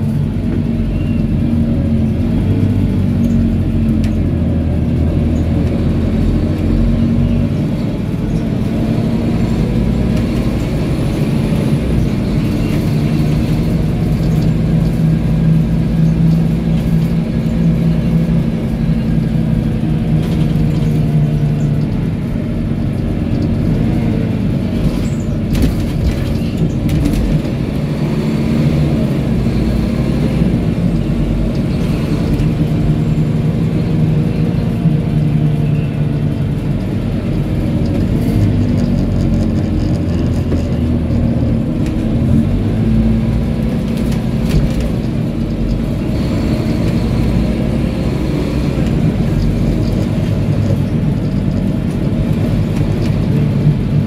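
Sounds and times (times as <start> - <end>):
bus diesel engine: 0.0 - 54.0
road rumble: 0.0 - 54.0.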